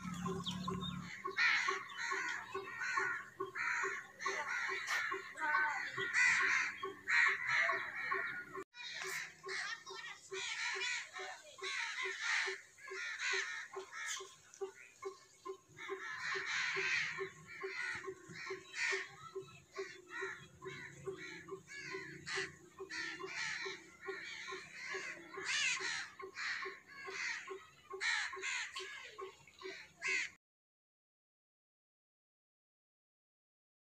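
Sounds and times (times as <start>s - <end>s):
crows cawing: 0.0s - 30.4s.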